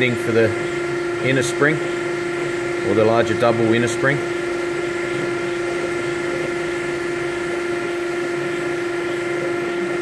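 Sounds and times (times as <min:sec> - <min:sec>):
constant whine: 0:00.0 - 0:10.0
machine hum: 0:00.0 - 0:10.0
metal cutting noise: 0:00.0 - 0:10.0.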